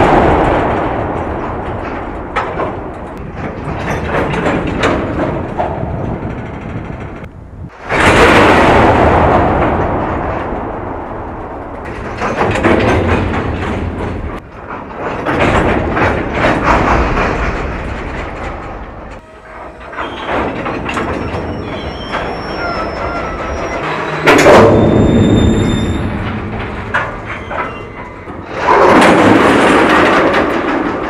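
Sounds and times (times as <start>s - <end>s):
train couplers clanking and banging: 0.0s - 31.0s
train wheels rumbling on rail: 0.0s - 31.0s.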